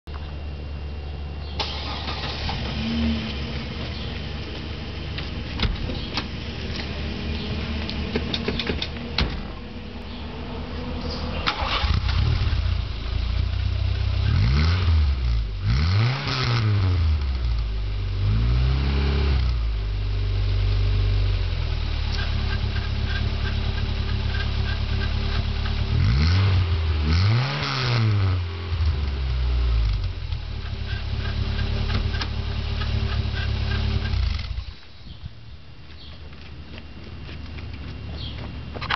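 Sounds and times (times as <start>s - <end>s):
car engine starting and idling: 0.1s - 38.9s.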